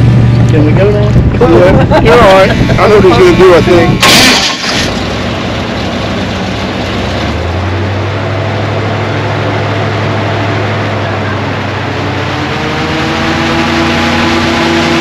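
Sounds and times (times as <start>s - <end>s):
airboat engine and propeller drone: 0.0s - 15.0s.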